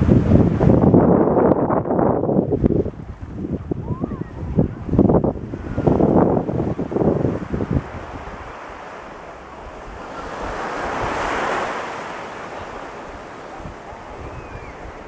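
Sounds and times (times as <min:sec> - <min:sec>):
ocean wave breaking: 0:00.0 - 0:15.0
wind rumble on microphone: 0:00.0 - 0:15.0.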